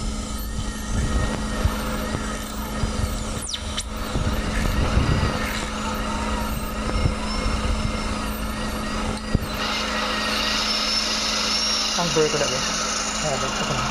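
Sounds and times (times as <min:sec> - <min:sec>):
dental handpiece drilling: 0:00.0 - 0:13.9.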